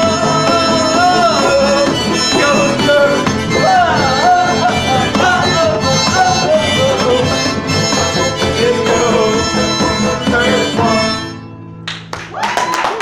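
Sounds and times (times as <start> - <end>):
accordion: 0.0 - 11.8
harmonica melody: 0.0 - 11.8
strummed acoustic guitar: 0.0 - 11.9.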